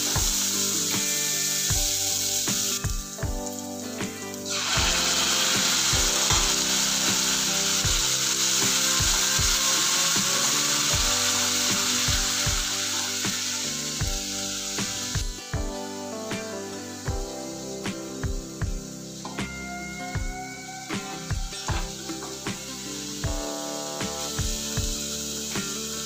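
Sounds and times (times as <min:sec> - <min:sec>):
background music with steady beat: 0:00.0 - 0:26.0
puree sizzling in hot oil: 0:00.0 - 0:26.0.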